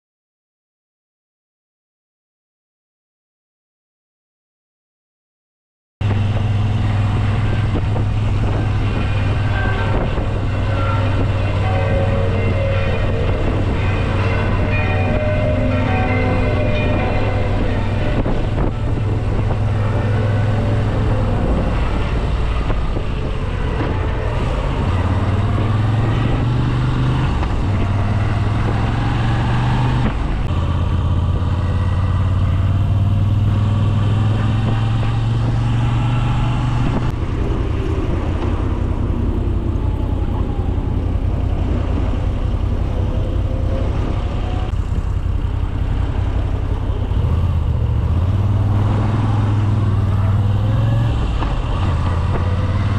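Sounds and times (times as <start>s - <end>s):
motorcycle engine running: 6.0s - 52.9s.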